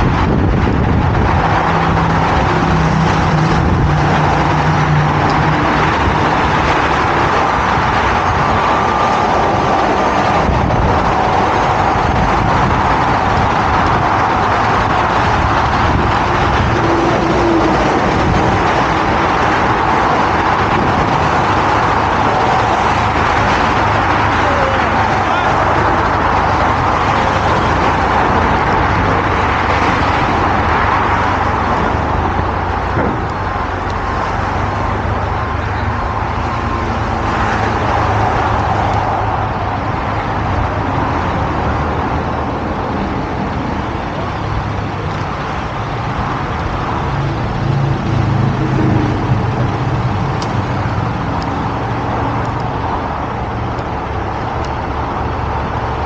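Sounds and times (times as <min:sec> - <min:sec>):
low engine hum: 0:00.0 - 0:56.0
road traffic rush: 0:00.0 - 0:56.0.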